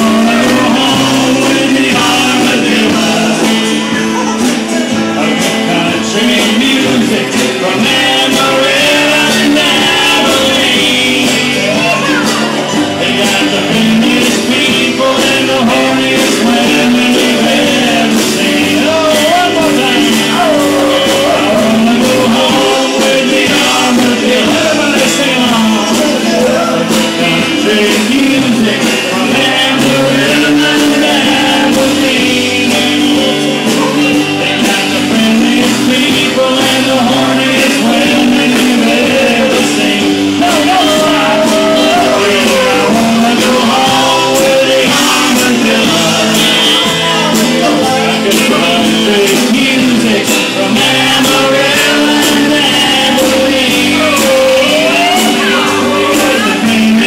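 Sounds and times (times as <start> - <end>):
live country-rock band playing: 0.0 - 57.0.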